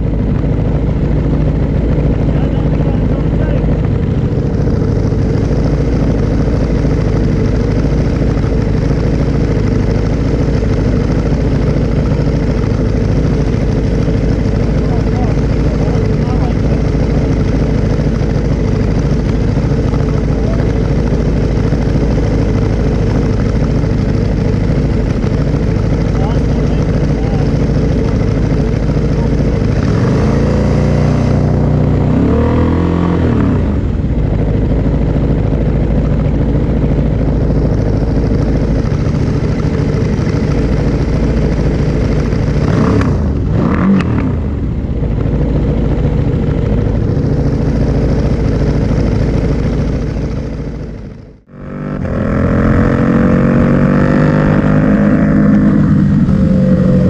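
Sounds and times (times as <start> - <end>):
motorcycle accelerating: 0.0 - 57.0
motorcycle engine revving: 0.0 - 57.0.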